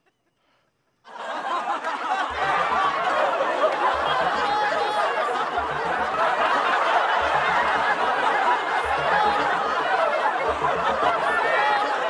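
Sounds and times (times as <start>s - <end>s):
crowd chattering and laughing: 1.1s - 12.0s
bass party music: 2.3s - 12.0s.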